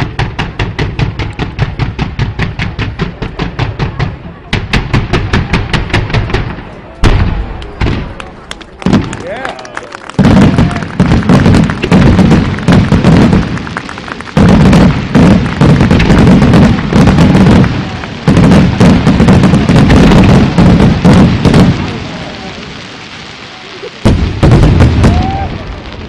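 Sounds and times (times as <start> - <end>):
fireworks bursts and crackle: 0.0 - 26.0.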